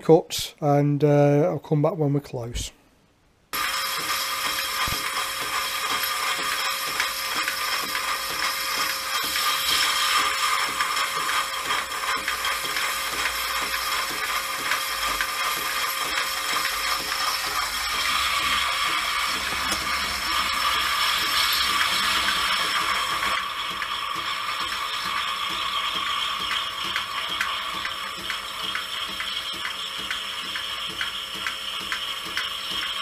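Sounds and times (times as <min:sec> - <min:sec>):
cutting tool chatter: 0:03.6 - 0:33.0
milling machine whirring: 0:03.6 - 0:33.0.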